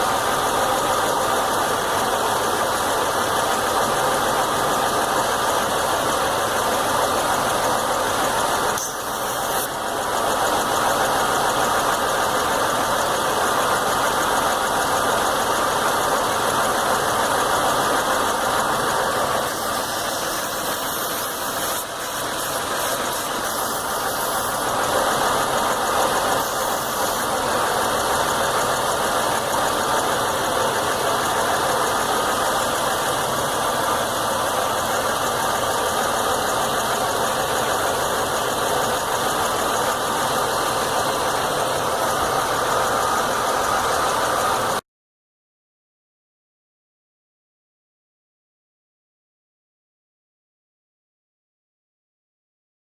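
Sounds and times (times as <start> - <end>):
car engine idling roughly: 0.0 - 44.8.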